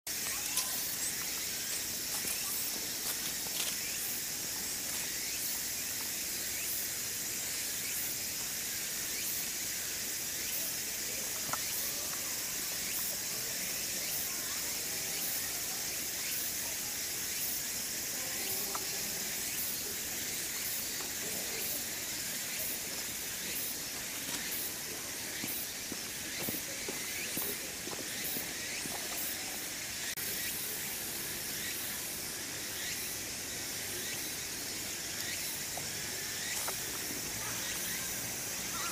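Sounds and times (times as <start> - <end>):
cicadas buzzing: 0.1 - 38.9.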